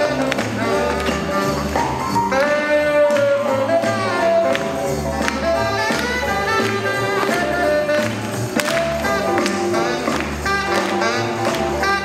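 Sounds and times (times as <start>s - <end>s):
horns playing held notes: 0.0s - 12.0s.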